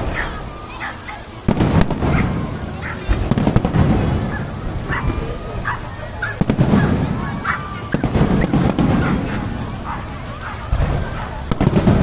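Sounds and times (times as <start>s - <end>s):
fireworks booming and cracking: 0.0s - 12.0s.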